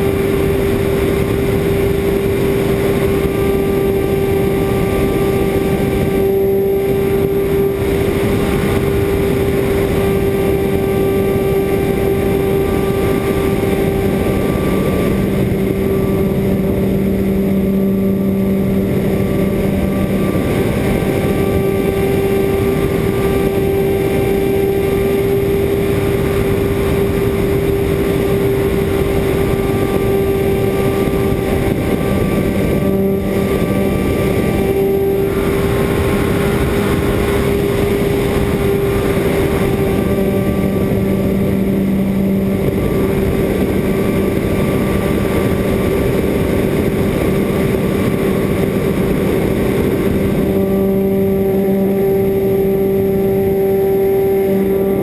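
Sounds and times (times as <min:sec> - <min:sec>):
model plane motor and propeller: 0:00.0 - 0:55.0
wind rushing over microphone: 0:00.0 - 0:55.0.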